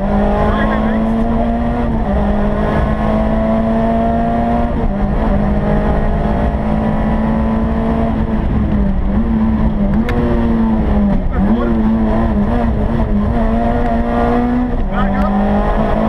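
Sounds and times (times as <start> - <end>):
rally car engine under load: 0.0 - 16.0
road rumble: 0.0 - 16.0.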